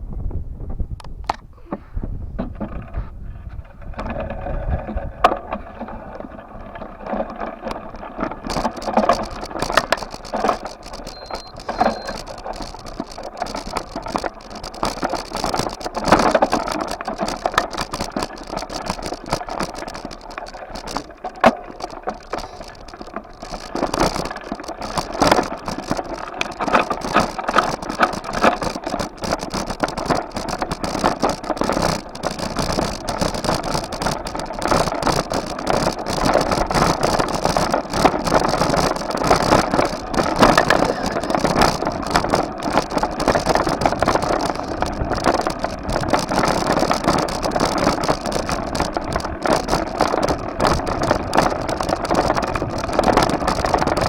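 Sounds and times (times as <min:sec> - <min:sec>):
bike rattling: 0:01.2 - 0:54.0
road noise: 0:04.8 - 0:54.0.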